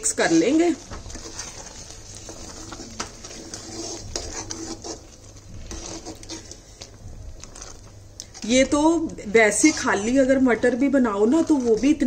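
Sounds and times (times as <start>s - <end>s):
metal ladle scraping a pot: 0.0s - 10.4s.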